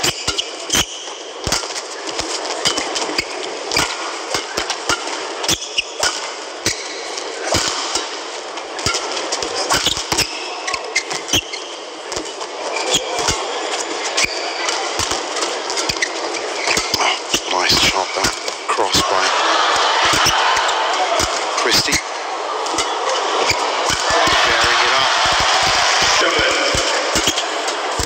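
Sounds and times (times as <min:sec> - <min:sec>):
arena crowd noise: 0:00.0 - 0:00.6, 0:06.2 - 0:28.0.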